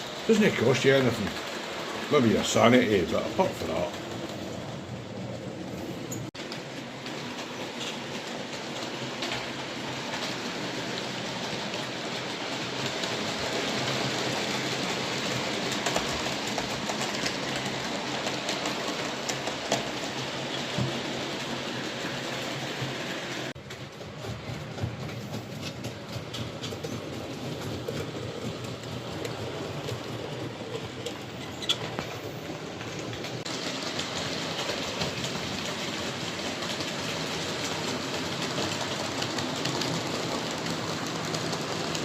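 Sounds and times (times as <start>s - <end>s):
model trains rattling and humming: 0.0s - 42.0s.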